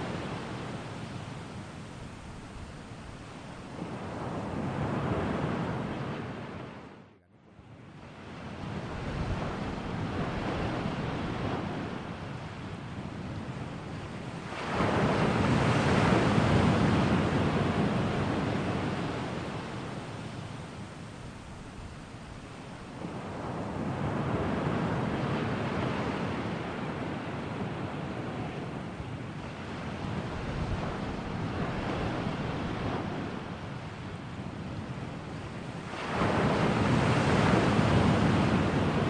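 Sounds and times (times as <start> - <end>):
rushing surf-like noise: 0.0 - 6.8, 13.7 - 39.0.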